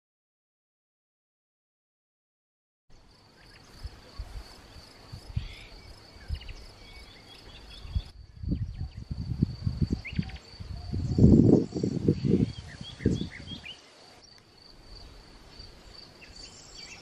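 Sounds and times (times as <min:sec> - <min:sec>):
crickets trilling: 0:03.0 - 0:17.0.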